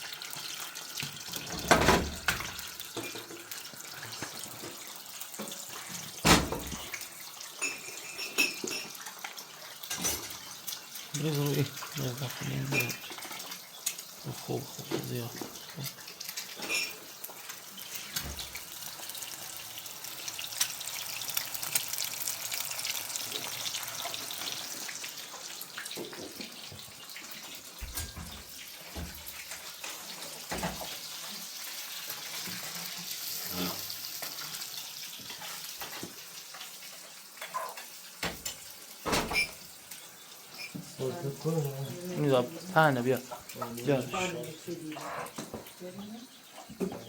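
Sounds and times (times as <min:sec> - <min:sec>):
water running: 0:00.0 - 0:47.0.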